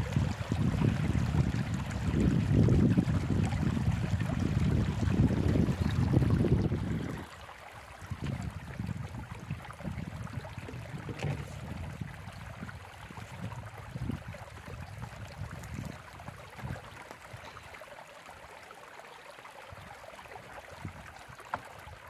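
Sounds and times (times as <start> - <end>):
wind rumble on microphone: 0.0 - 17.6, 19.7 - 22.0
stream running: 0.0 - 22.0.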